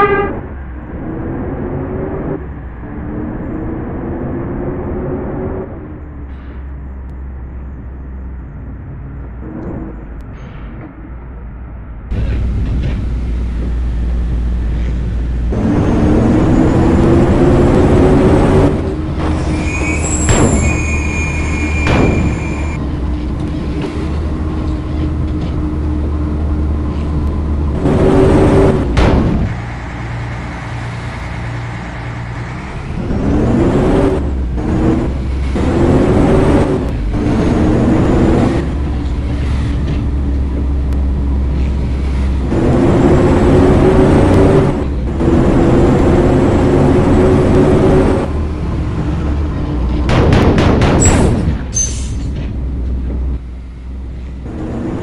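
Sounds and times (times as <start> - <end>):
vehicle motor running: 0.0 - 55.0.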